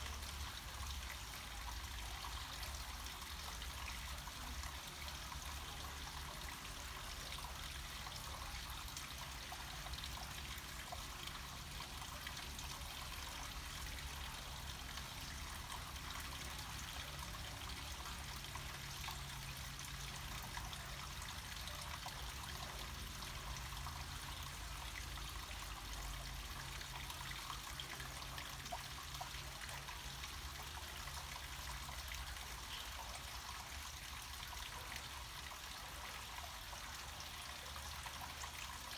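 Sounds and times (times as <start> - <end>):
small waterfall trickling: 0.0 - 38.9.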